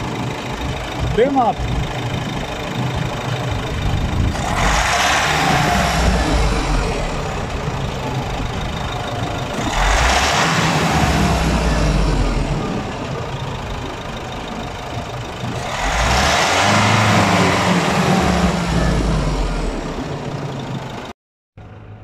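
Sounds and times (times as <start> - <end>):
engine revving: 0.0 - 21.1.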